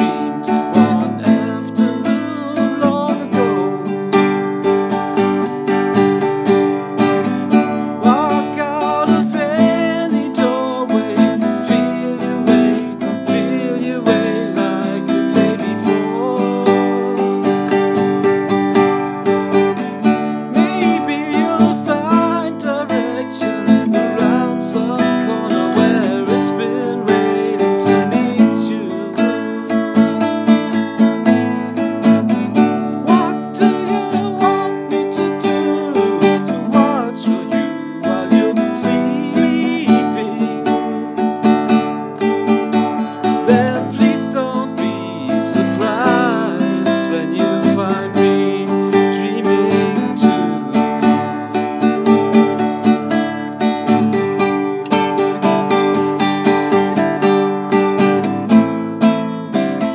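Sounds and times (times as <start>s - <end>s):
man singing: 0.0s - 6.2s, 6.8s - 58.4s
classical guitar strumming: 0.0s - 59.9s.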